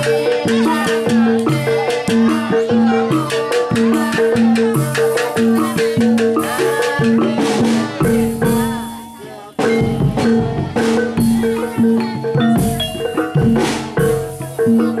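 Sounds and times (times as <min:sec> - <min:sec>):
mallet percussion and drums music: 0:00.0 - 0:15.0.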